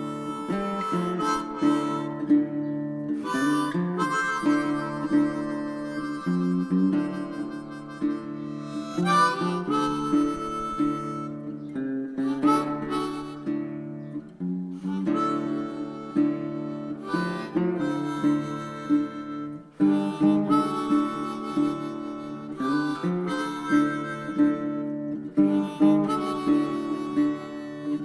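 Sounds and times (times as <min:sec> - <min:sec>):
acoustic guitar: 0:00.0 - 0:28.0
harmonica melody: 0:00.0 - 0:28.0.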